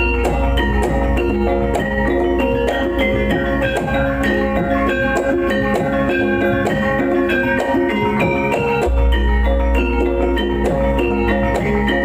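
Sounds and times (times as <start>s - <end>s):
bronze metallophones ringing: 0.0s - 12.0s
drumming: 0.0s - 12.0s.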